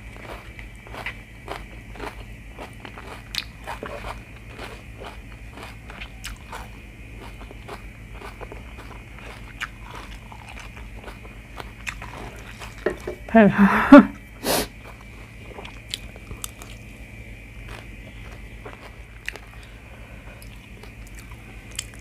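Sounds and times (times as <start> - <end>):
chewing and crunching food: 0.0 - 13.3, 14.2 - 22.0.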